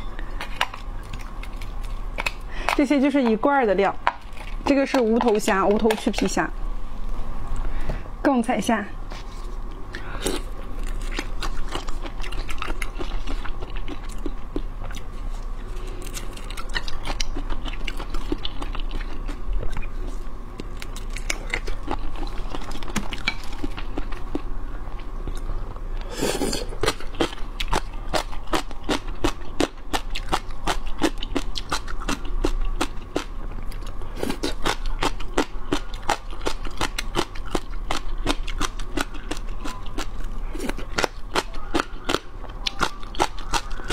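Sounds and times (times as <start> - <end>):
wet chewing and crunching: 0.0 - 3.4, 4.0 - 6.3, 9.4 - 43.9.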